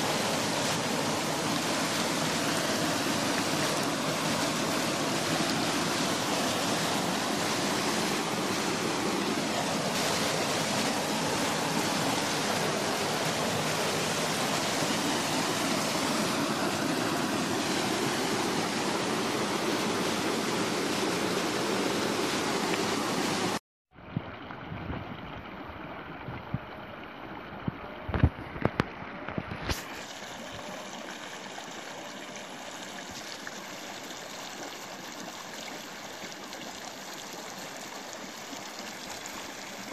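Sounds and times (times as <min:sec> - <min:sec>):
stream rushing over rocks: 0:00.0 - 0:23.6, 0:24.5 - 0:39.9.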